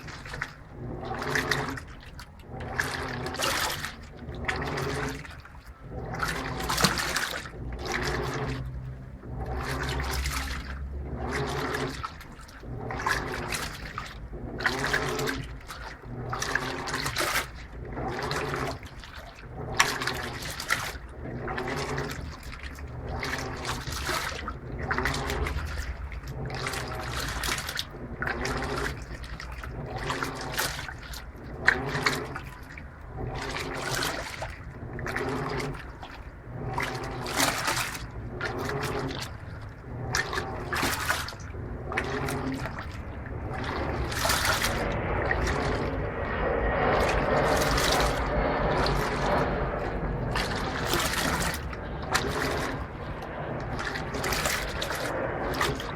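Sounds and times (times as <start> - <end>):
washing machine motor hum: 0.0 - 55.9
washing machine water sloshing: 0.0 - 55.9.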